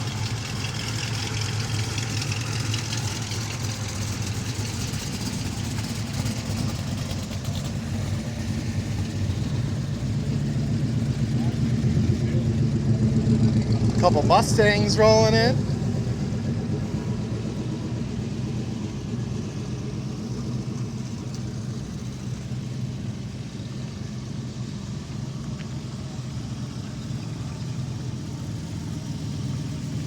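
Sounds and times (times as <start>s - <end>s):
car engines rumbling: 0.0s - 30.0s.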